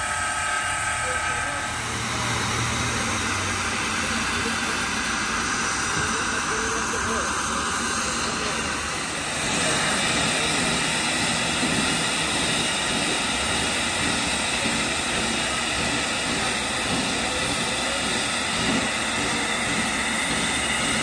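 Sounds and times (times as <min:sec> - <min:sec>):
loud hiss of escaping steam: 0:01.6 - 0:21.0.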